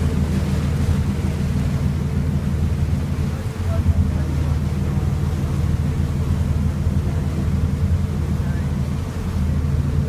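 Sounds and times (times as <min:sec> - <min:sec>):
boat engine droning: 0:00.0 - 0:10.0
rush of boat wake: 0:00.0 - 0:10.0
wind: 0:00.0 - 0:10.0.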